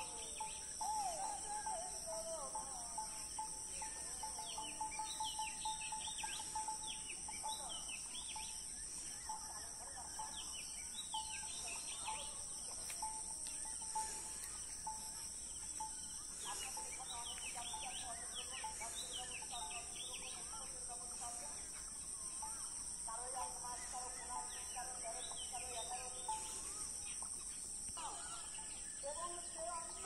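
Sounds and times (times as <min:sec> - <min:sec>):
high-pitched insect drone: 0:00.0 - 0:30.0
small birds chirping: 0:00.0 - 0:30.0.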